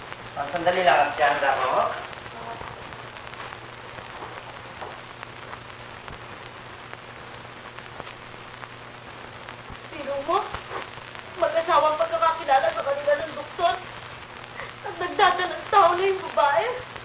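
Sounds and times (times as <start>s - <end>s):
film soundtrack hiss and crackle: 0.0s - 17.0s
low hum: 0.0s - 17.0s.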